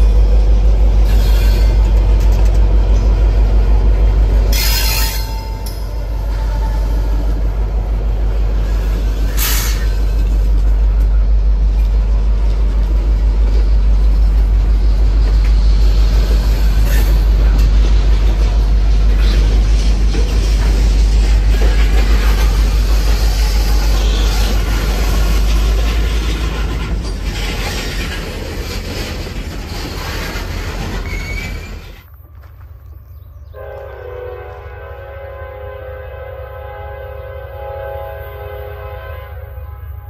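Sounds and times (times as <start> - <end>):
train wheels on rails: 0.0 - 35.0
diesel locomotive rumble: 0.0 - 40.0.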